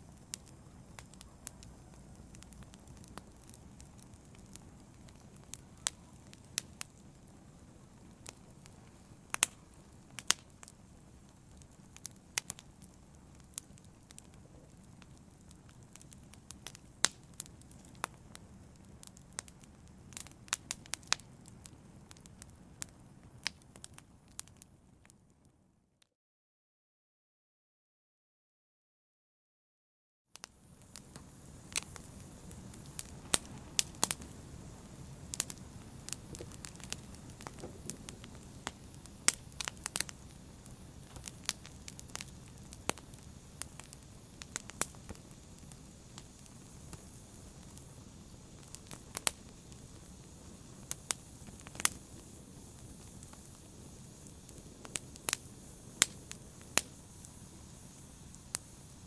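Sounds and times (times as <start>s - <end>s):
flames rumbling and hissing: 0.0s - 25.1s, 30.4s - 59.0s
wood fire crackling and popping: 0.0s - 25.2s, 30.4s - 59.0s.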